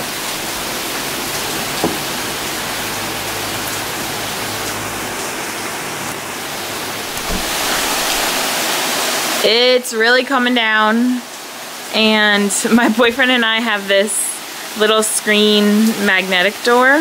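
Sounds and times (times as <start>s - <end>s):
heavy rain pouring on trees and deck: 0.0s - 17.0s.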